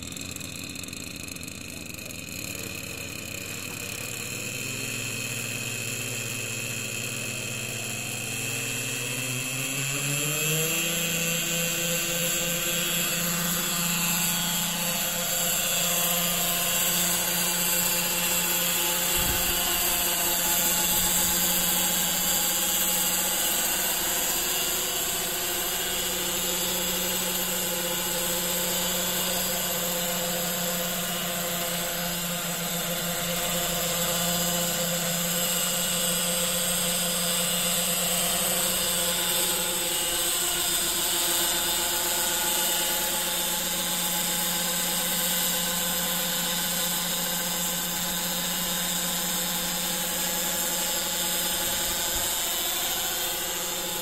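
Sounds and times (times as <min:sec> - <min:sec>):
model helicopter rotors whining: 0:00.0 - 0:54.0.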